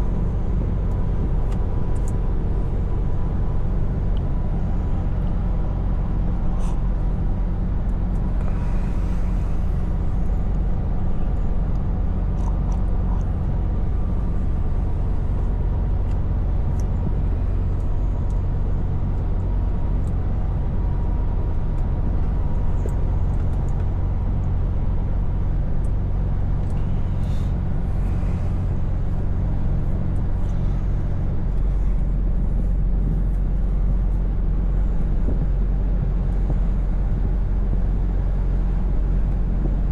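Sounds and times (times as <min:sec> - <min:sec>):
road noise: 0:00.0 - 0:39.9
truck engine droning: 0:00.0 - 0:39.9.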